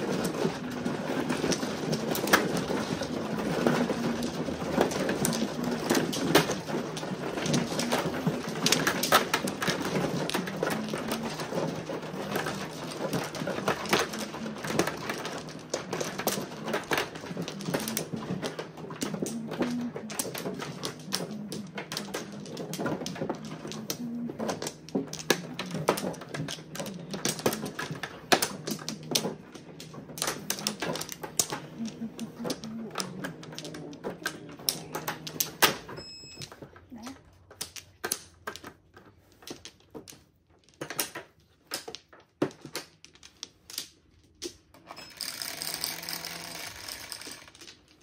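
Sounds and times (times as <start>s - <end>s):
mahjong tiles clacking: 0.0s - 48.0s.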